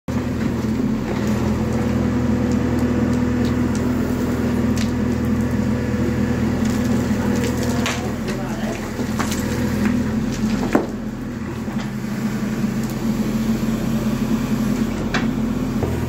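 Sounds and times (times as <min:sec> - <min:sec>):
diesel engine droning under load: 0:00.1 - 0:16.0.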